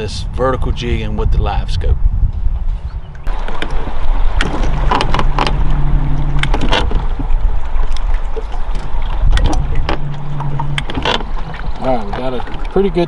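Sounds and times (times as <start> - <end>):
steady low hum: 0.0 - 13.0
wind rumbling on microphone: 0.0 - 13.0.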